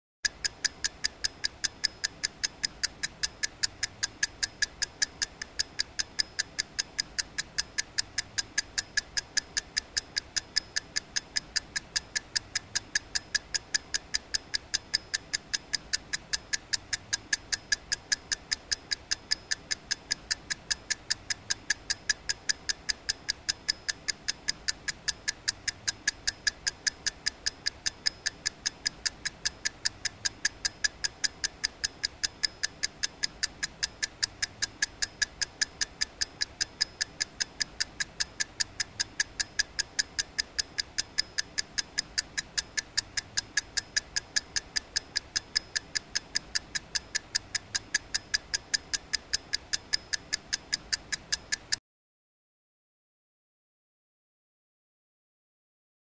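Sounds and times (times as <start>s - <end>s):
clock ticking: 0.2s - 51.8s.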